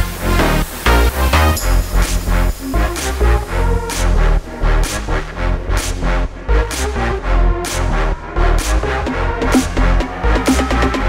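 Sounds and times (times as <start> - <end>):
electronic music with heavy bass beat: 0.0 - 11.0.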